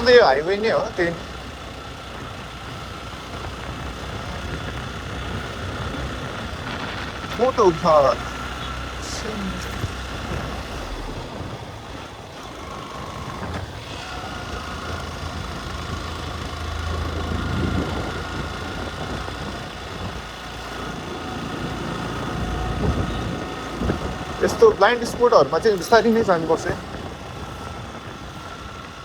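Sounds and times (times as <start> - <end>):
motorcycle engine running: 0.0 - 29.0
wind and road noise: 0.0 - 29.0.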